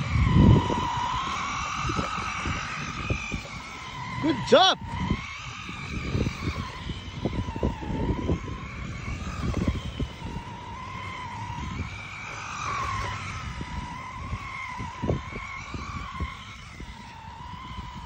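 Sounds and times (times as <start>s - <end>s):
toy truck motor whine: 0.0s - 18.0s.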